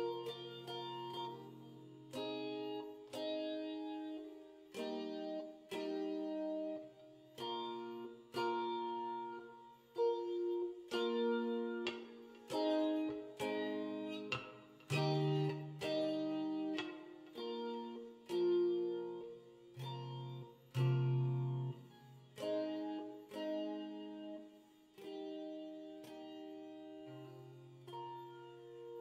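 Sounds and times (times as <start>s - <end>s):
electric guitar picking chords: 0.0s - 29.0s.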